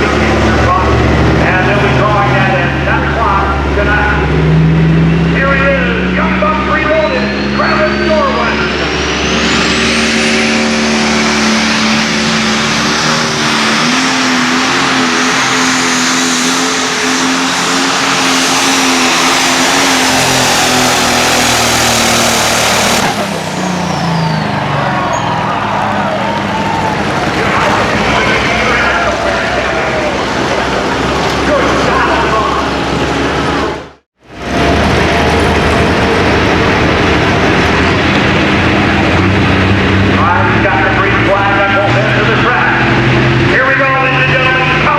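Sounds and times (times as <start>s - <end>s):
diesel engine running flat out: 0.0s - 44.9s
high turbo whine: 0.0s - 44.9s.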